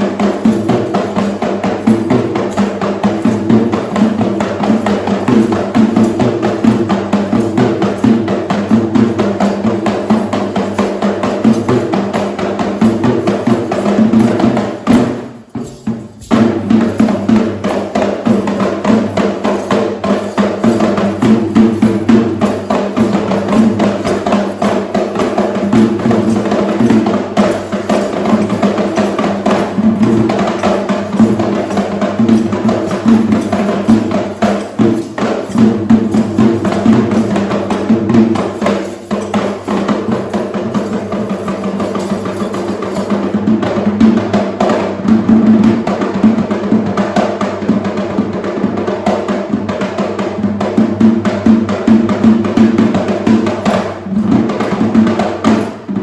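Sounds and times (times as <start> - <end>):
hand drums playing fast rhythm: 0.0 - 56.0.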